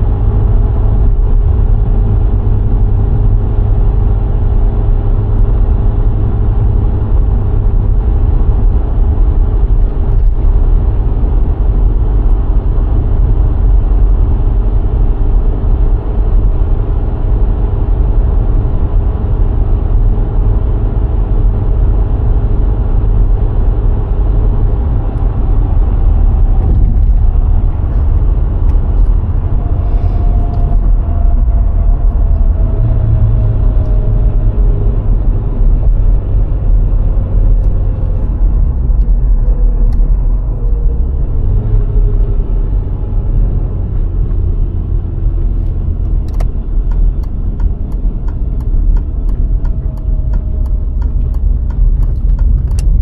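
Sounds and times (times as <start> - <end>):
car engine hum: 0.0 - 53.0
tyre and road rumble: 0.0 - 53.0.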